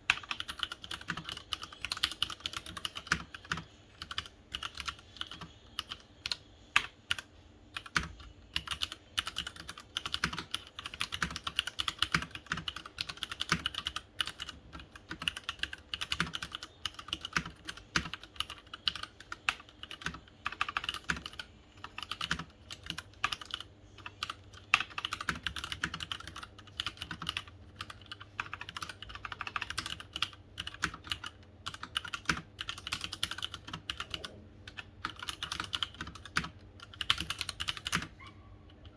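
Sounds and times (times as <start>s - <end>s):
mechanical keyboard typing: 0.0s - 38.2s.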